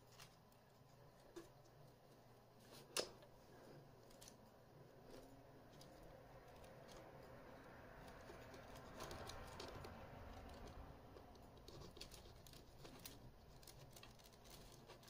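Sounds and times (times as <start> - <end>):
faint handling clicks and scratches: 0.0 - 15.0.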